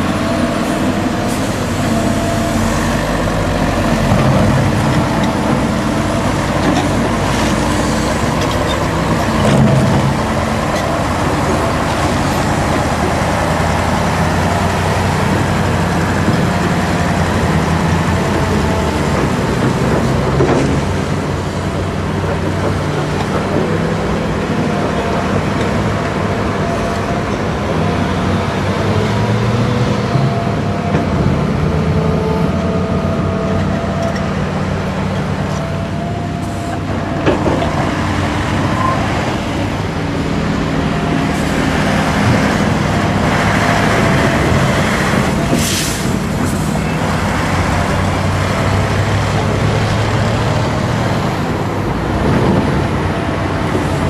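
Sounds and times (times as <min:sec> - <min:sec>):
road traffic passing: 0:00.0 - 0:54.0
truck diesel engine running: 0:00.0 - 0:54.0.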